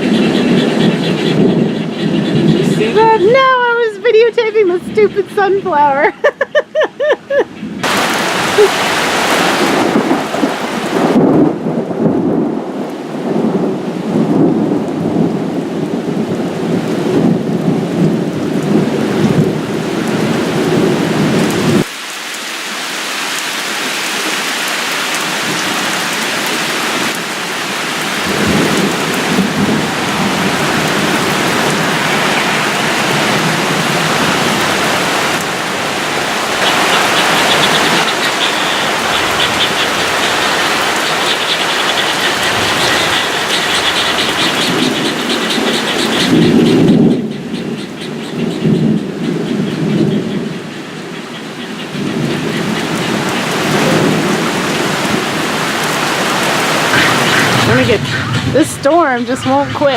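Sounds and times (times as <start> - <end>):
thunder rumbling: 0.0 - 6.3, 7.5 - 21.9, 25.2 - 59.9
heavy rain pouring: 0.0 - 59.9.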